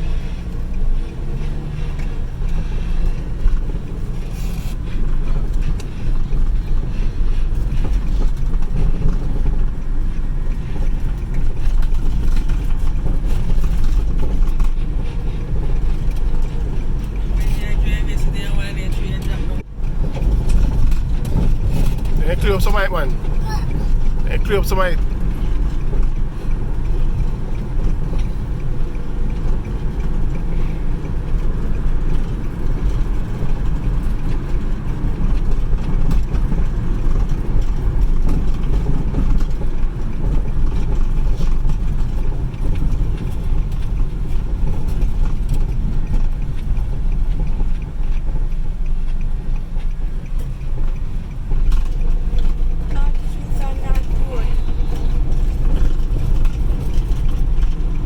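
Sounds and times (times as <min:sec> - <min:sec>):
tyre noise on road: 0:00.0 - 0:58.0
vehicle engine rumble: 0:00.0 - 0:58.0.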